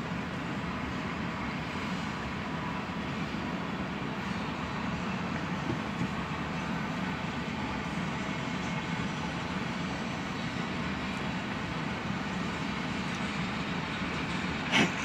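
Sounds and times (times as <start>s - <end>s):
freight train wheels rolling on rails: 0.0s - 15.0s.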